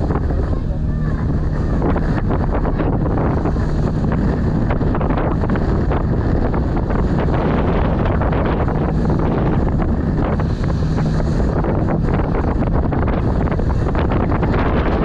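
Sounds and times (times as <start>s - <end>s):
low rumble of boat: 0.0s - 15.0s
wind buffeting microphone: 0.0s - 15.0s.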